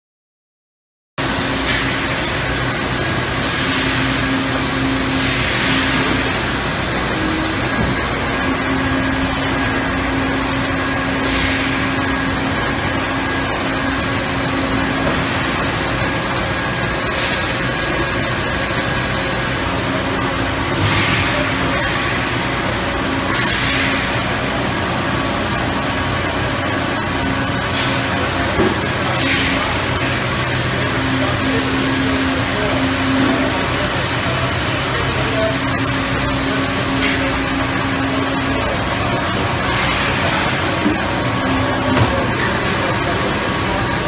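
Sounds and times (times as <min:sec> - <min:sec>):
injection molding machine running: 0:01.2 - 0:44.0
low machine hum: 0:01.2 - 0:44.0
steady high machine tone: 0:01.2 - 0:44.0.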